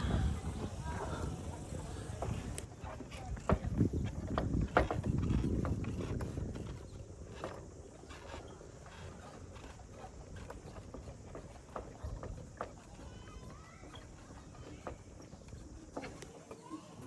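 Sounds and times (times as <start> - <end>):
footsteps on wooden planks: 0.0 - 17.0.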